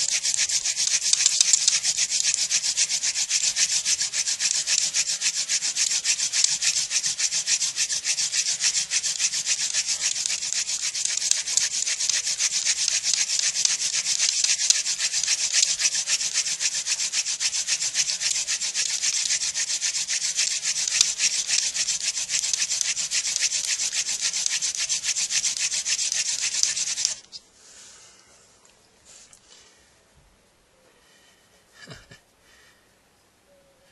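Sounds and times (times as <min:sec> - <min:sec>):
hands rubbing wooden spindle: 0:00.0 - 0:27.4.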